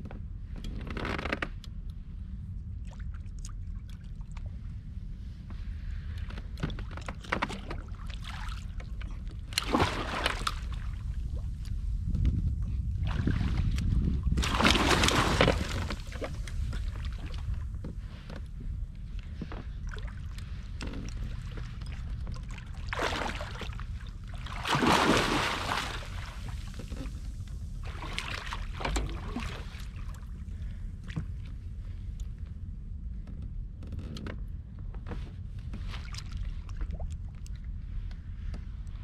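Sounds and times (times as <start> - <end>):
steady low rumble: 0.0 - 39.0
water sloshing around boat: 2.6 - 39.0.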